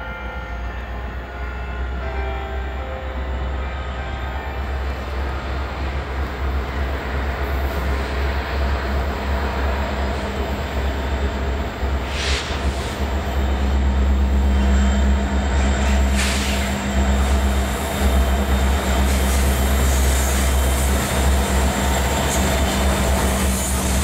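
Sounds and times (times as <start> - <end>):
diesel locomotive engine rumble: 0.0 - 24.0.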